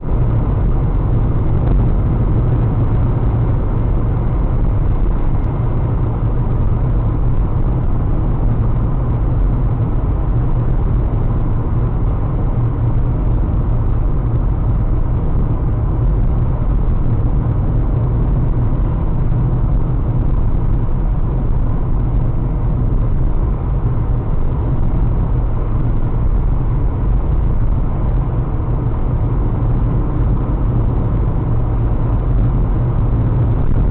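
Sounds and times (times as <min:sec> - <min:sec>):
car driving rumble: 0:00.0 - 0:33.9.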